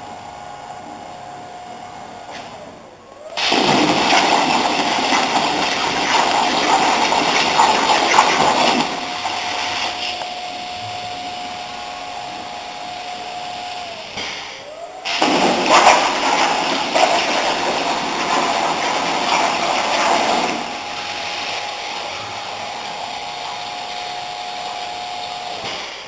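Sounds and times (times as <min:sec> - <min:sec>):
steady high whine: 0:00.0 - 0:26.0.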